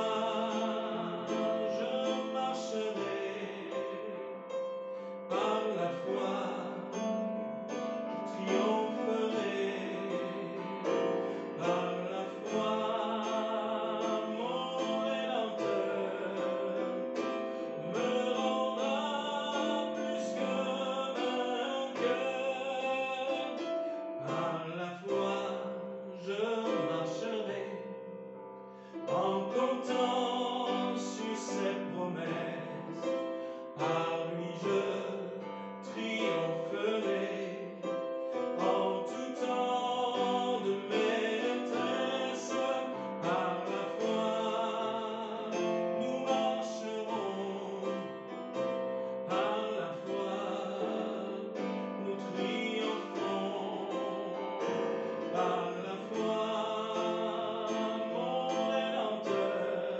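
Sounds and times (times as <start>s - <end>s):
man singing: 0.0s - 27.9s, 29.0s - 59.9s.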